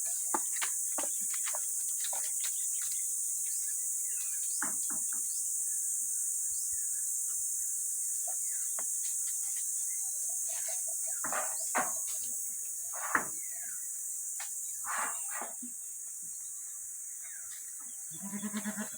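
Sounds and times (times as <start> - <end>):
high-pitched insect chorus: 0.0 - 18.9.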